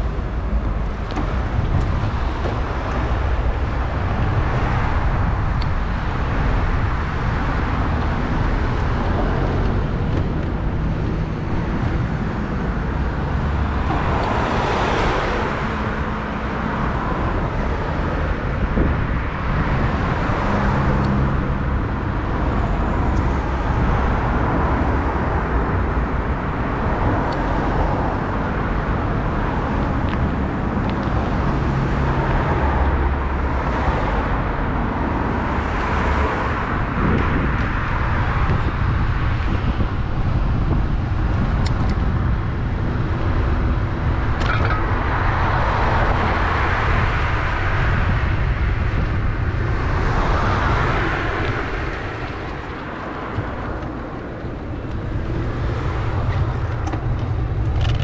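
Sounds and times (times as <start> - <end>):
cars passing: 0.0 - 58.0
road and wind rumble: 0.0 - 58.0.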